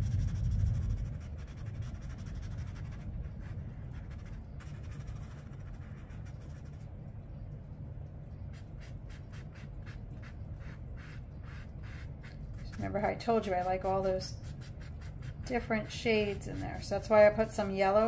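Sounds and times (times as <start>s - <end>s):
brush scratching on paper: 0.0s - 6.9s, 8.5s - 17.7s
low steady hum: 0.0s - 18.0s.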